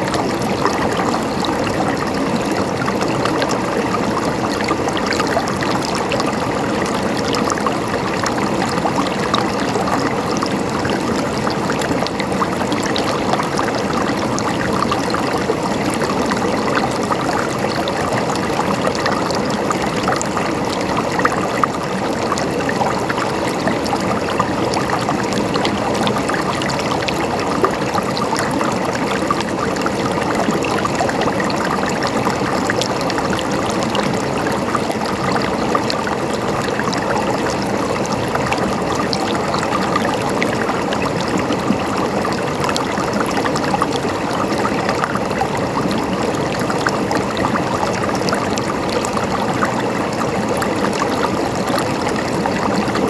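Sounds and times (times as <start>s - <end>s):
stream gurgling over stones: 0.0s - 53.0s.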